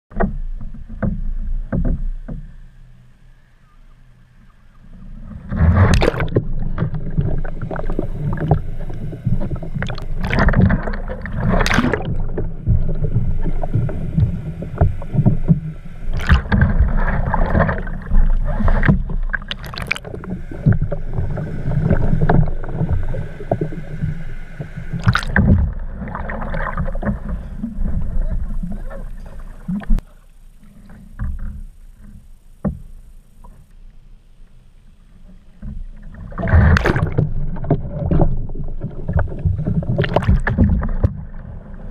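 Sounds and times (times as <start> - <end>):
water splashing around kayak: 0.1 - 41.9
heavy low underwater rumble: 4.1 - 41.9.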